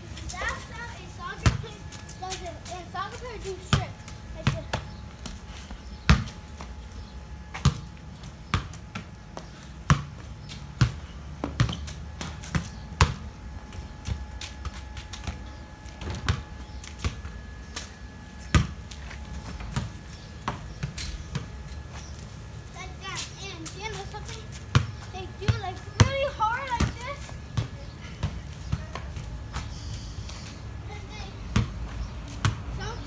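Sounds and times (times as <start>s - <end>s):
ball bouncing on concrete: 0.1s - 22.1s, 23.2s - 30.6s, 31.5s - 33.0s.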